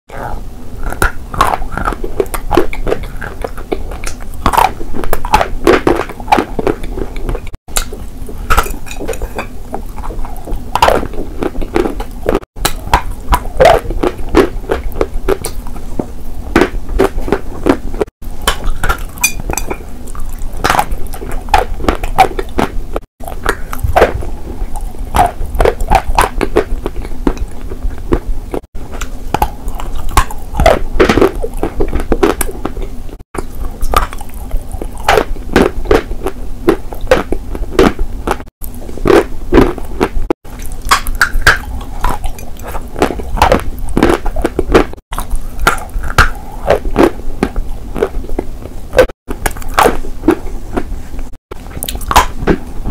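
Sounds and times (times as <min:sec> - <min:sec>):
crunching and chewing chalk: 0:00.1 - 0:52.9.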